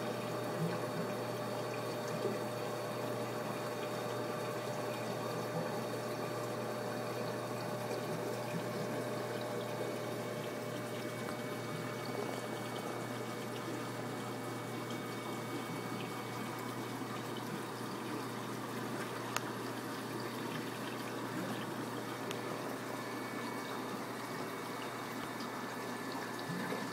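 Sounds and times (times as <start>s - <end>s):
aquarium air stone bubbling: 0.0s - 26.9s.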